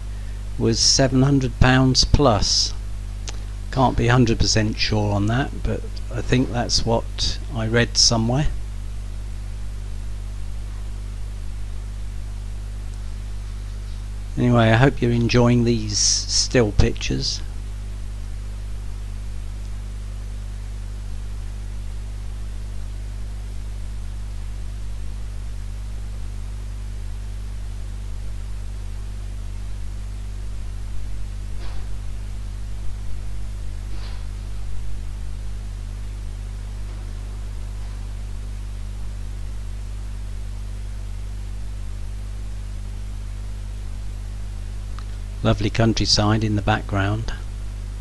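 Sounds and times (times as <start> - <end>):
low electrical hum with hiss: 0.0 - 48.0.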